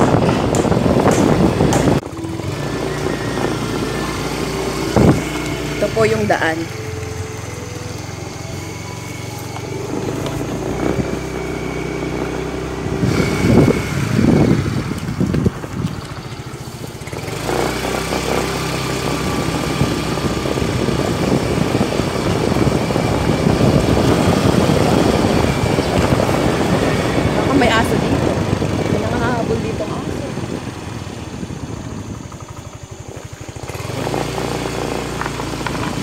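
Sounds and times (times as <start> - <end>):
motorcycle engine running: 0.0 - 36.0
wind and road noise rushing: 0.0 - 36.0.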